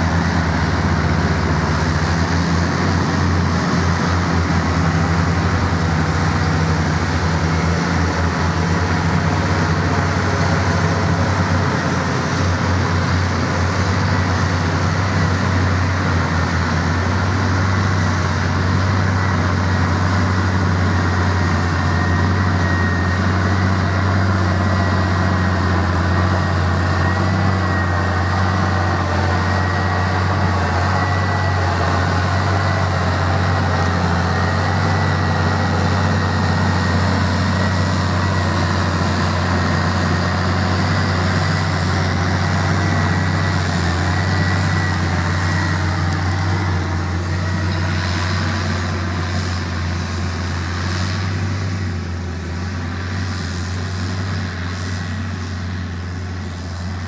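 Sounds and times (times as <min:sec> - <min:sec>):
high wavering whine: 0:00.0 - 0:57.0
tractor engines droning: 0:00.0 - 0:57.0.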